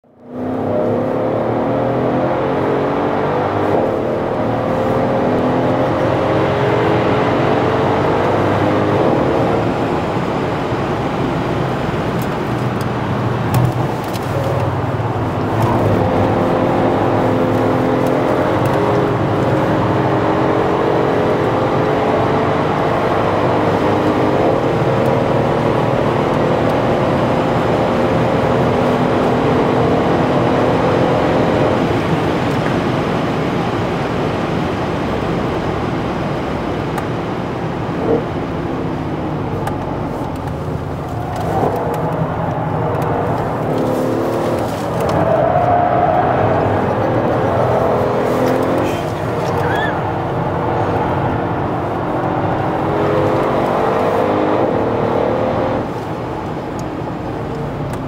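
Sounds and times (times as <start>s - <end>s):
tyre and road noise: 0.0s - 58.0s
car engine accelerating hard: 0.1s - 58.0s.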